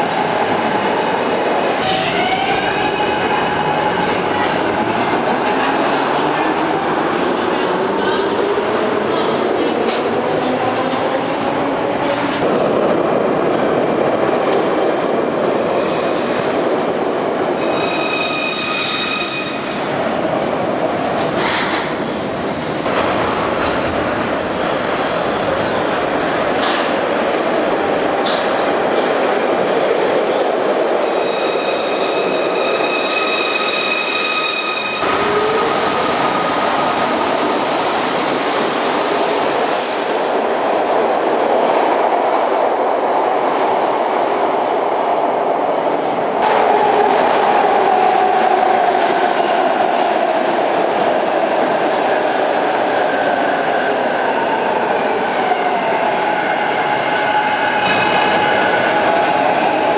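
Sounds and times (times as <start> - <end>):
subway train wheels on rail: 0.0 - 59.9.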